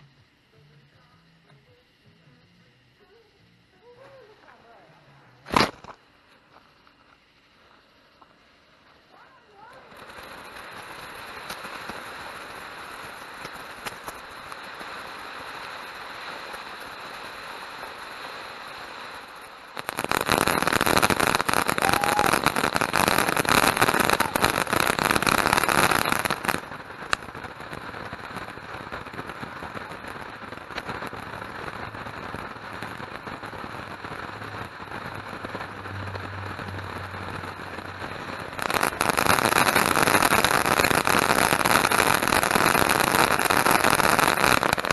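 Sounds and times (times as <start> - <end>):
firework fountain hissing: 0.0 - 44.9
crackling firework shots: 5.4 - 44.9.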